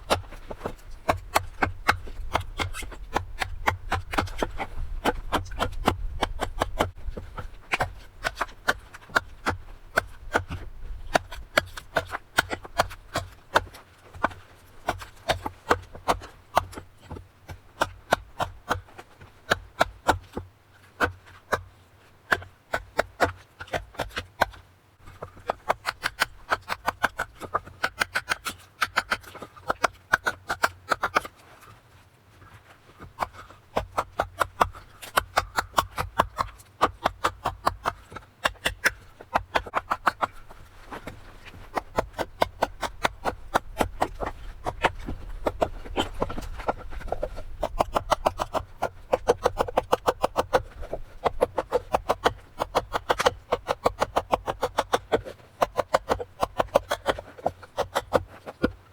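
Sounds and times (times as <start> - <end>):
knife carving wood: 0.0 - 31.8, 32.6 - 58.9.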